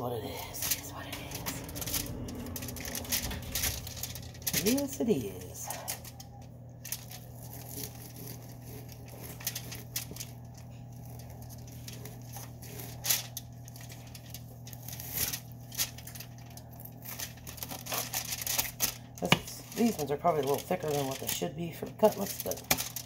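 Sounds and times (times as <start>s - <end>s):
low steady hum: 0.0s - 23.0s
foil crinkling: 0.1s - 23.0s.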